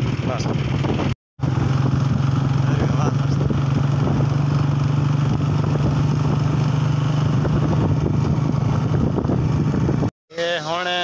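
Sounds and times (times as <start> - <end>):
motorcycle engine humming: 0.0 - 10.1.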